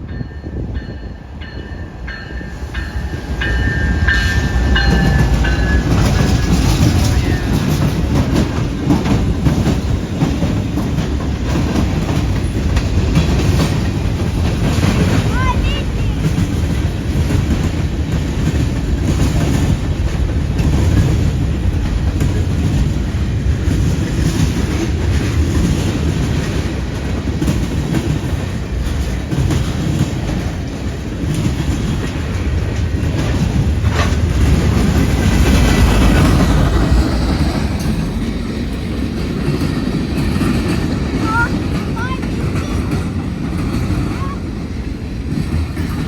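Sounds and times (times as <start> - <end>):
freight train rumble: 0.0 - 46.0
wheels clicking over rail joints: 1.4 - 46.0.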